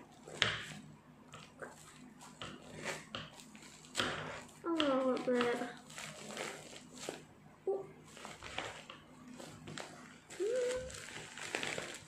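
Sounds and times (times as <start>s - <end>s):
plastic wrapping crinkling: 1.4s - 7.3s, 8.0s - 12.0s.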